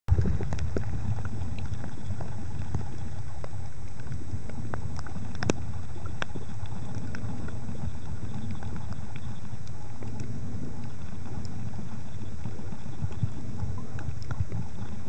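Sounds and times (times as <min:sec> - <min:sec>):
underwater low rumble: 0:00.1 - 0:15.0.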